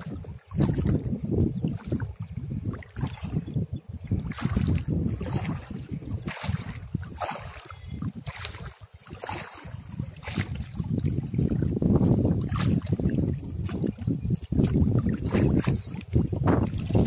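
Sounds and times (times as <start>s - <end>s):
water splashing and dripping: 0.0s - 3.4s, 4.1s - 17.0s
wind buffeting microphone: 0.0s - 17.0s.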